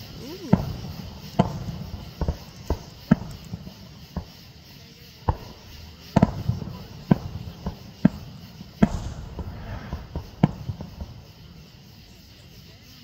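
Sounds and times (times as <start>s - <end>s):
firework shells bursting: 0.0s - 12.3s
firework pops and crackle: 0.4s - 12.0s.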